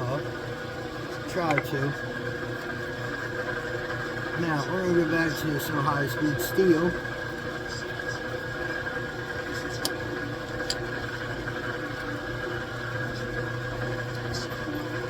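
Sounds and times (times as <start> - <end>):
machine tool humming: 0.0 - 15.0.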